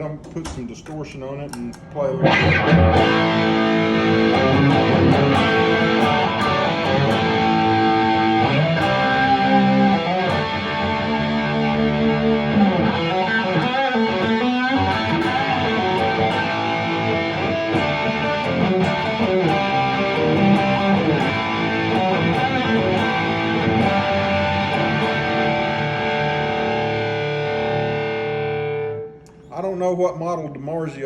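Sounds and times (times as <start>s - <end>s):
distorted electric guitar: 1.8s - 29.4s.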